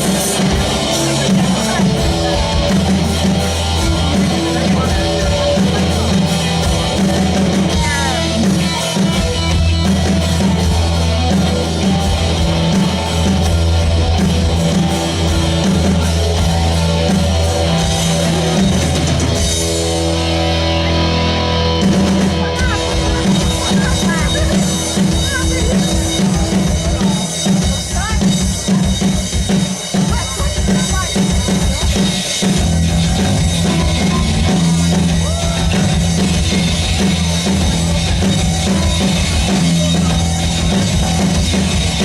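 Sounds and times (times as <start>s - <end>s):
bass guitar: 0.0s - 42.0s
drum kit: 0.0s - 42.0s
guitar: 0.0s - 42.0s.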